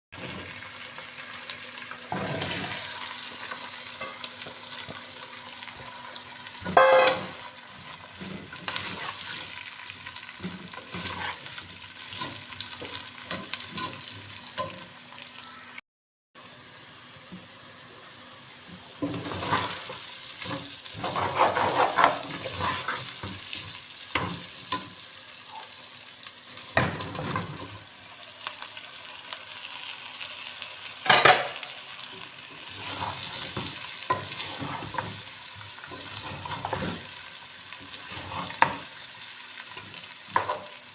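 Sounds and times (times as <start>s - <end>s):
chicken sizzling in a pot: 0.2s - 15.8s, 16.4s - 40.9s.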